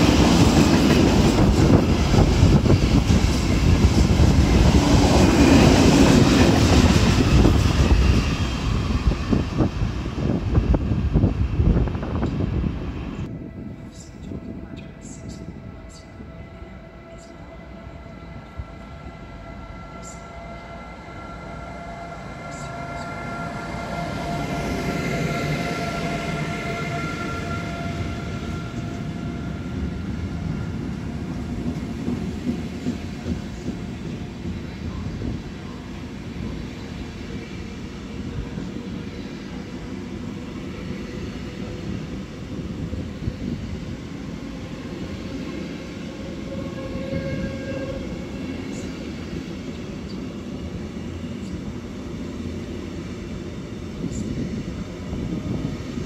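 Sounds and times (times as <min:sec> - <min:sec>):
electric locomotive whine: 0:00.0 - 0:56.0
freight train rumble: 0:00.0 - 0:56.0.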